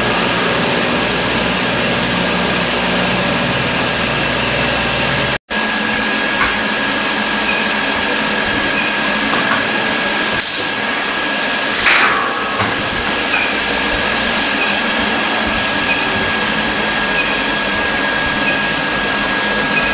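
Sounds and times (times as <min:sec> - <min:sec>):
workshop machinery whine: 0:00.0 - 0:19.9.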